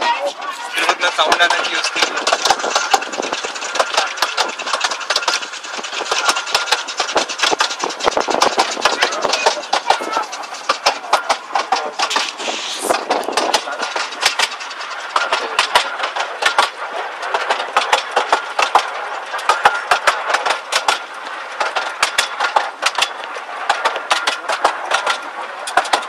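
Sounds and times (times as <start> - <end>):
train running rumble: 0.0 - 26.0
wheels clattering: 0.0 - 26.0
carriage rattling: 0.7 - 26.0.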